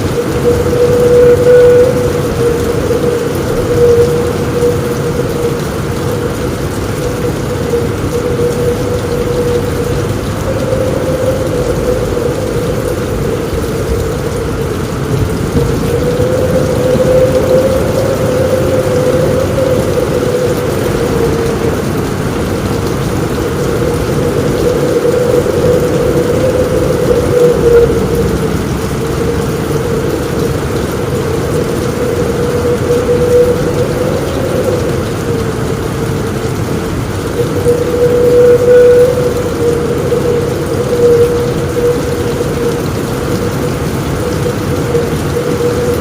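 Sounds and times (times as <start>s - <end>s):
heavy rain on a roof: 0.0s - 46.0s
thunder rumbling: 0.0s - 46.0s.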